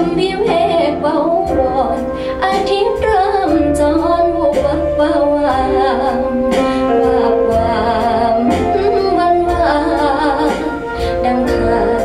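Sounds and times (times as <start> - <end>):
instrumental backing with bass: 0.0 - 12.0
woman singing with vibrato: 0.0 - 12.0.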